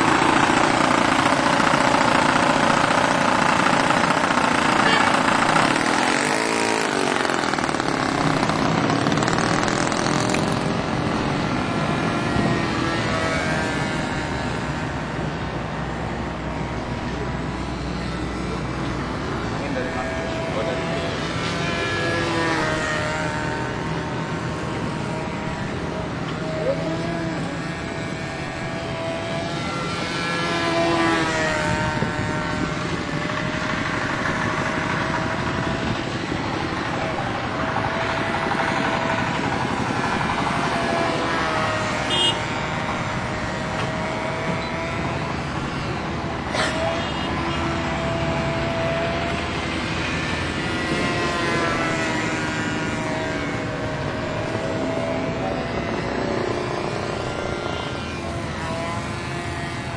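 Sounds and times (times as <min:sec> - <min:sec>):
model airplane engine buzzing: 0:00.0 - 0:59.9.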